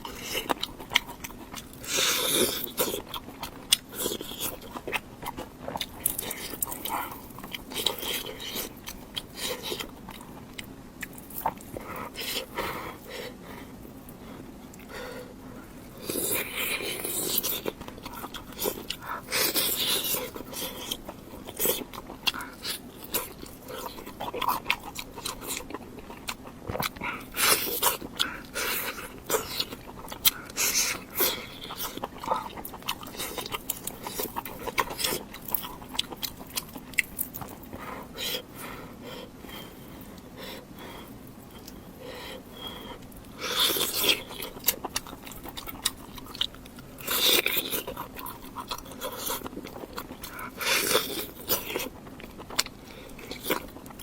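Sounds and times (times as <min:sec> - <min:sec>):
person biting and chewing food: 0:00.0 - 0:15.2, 0:15.8 - 0:54.0.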